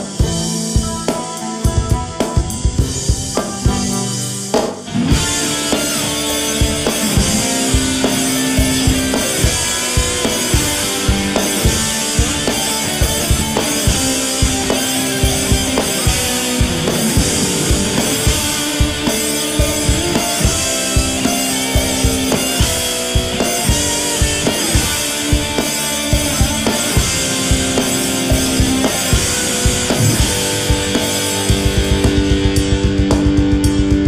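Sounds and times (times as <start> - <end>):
drum kit driving beat: 0.0 - 34.0
electric guitar chords: 0.0 - 34.0.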